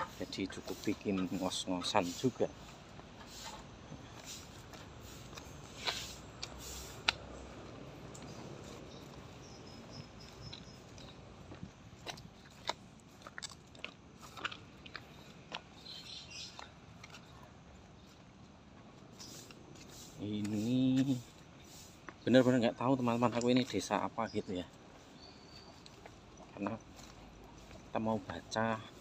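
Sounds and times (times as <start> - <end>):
footsteps crunching on gravel and leaves: 0.1 - 17.4, 18.0 - 29.0.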